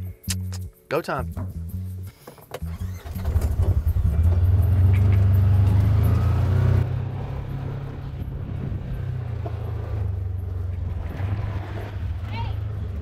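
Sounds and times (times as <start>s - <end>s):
utility vehicle engine droning: 2.5s - 13.0s.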